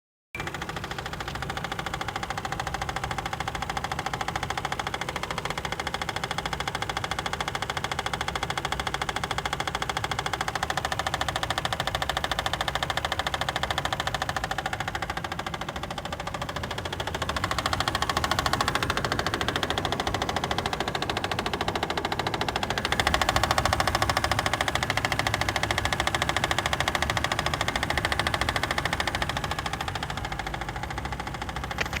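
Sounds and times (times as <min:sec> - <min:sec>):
engine idling with knock: 0:00.4 - 0:32.0.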